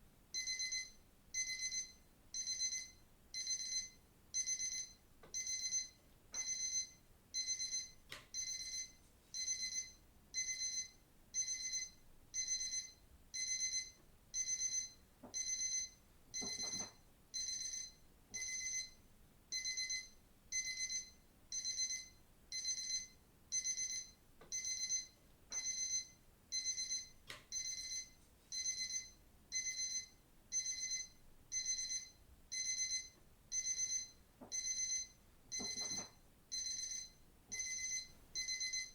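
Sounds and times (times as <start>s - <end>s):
digital watch alarm beeping: 0.4s - 38.9s.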